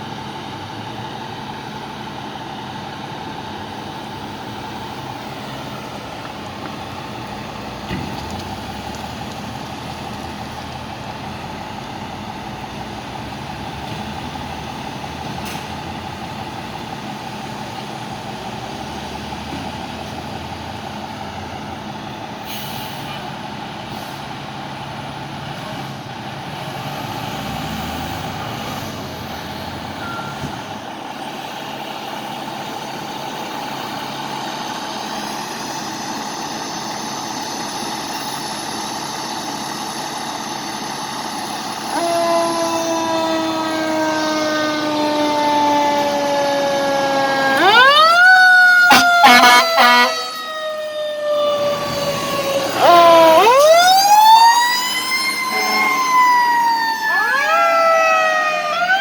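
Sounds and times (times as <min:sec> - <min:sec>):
fire truck diesel engines running: 0:00.0 - 0:59.0
fire truck siren: 0:00.0 - 0:59.0.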